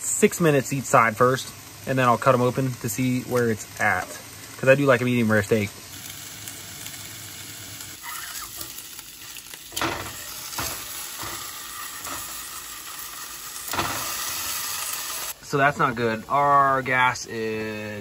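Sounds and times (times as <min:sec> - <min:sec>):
steaks sizzling in a frying pan: 0:00.2 - 0:15.4.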